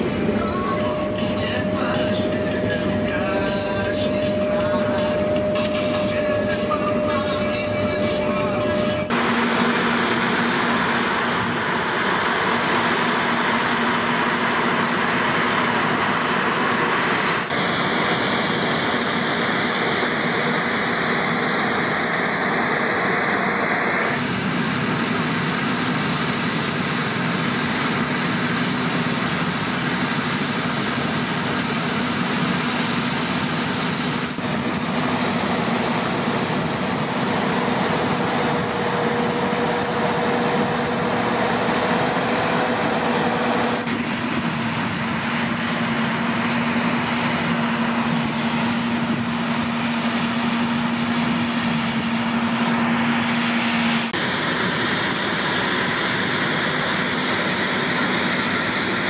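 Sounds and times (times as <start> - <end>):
combine harvester engine drone: 0.0 - 59.0
threshing and header noise: 0.0 - 59.0.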